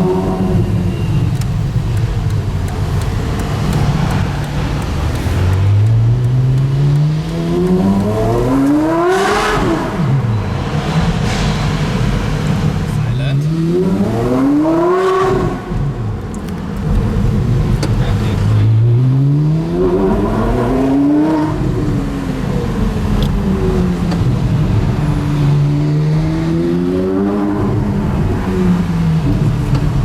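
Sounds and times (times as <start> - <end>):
sports car engine revving: 0.0 - 10.6, 11.7 - 30.0.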